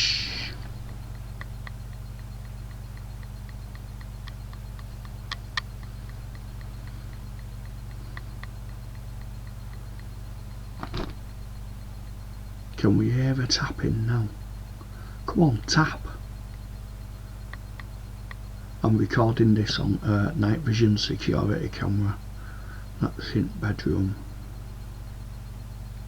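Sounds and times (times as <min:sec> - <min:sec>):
steady electrical hum: 0:00.0 - 0:26.0
faint regular ticking: 0:00.4 - 0:26.0.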